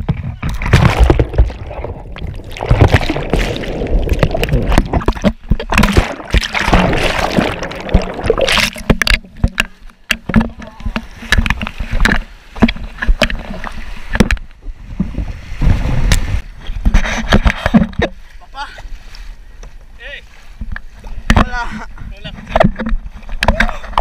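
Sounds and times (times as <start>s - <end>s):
surf rushing and splashing: 0.6s - 24.0s.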